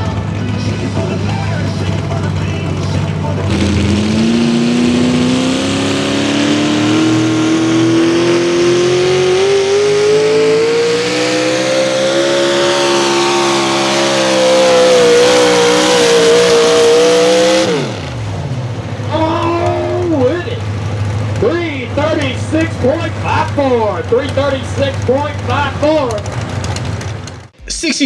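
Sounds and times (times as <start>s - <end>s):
engine at full throttle under load: 0.0s - 27.6s.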